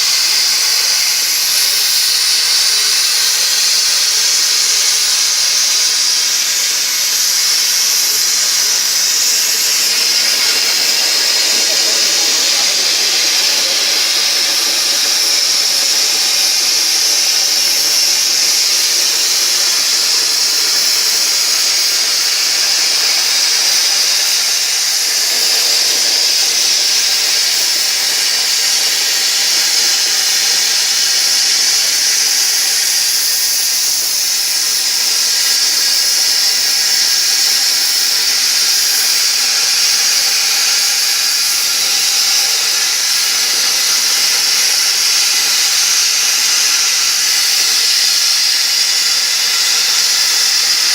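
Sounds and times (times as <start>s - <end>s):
plasma torch hissing and whining: 0.0s - 50.9s.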